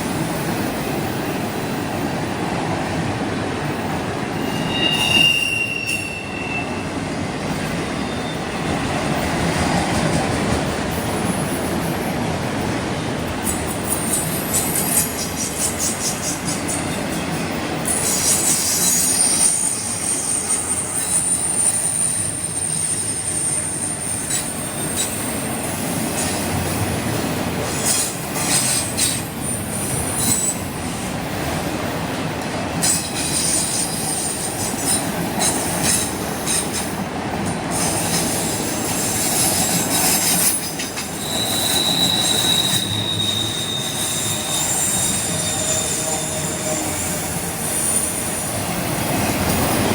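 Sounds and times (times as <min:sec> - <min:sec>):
train rumble: 0:00.0 - 0:49.9
train wheels squealing on rails: 0:00.0 - 0:49.9.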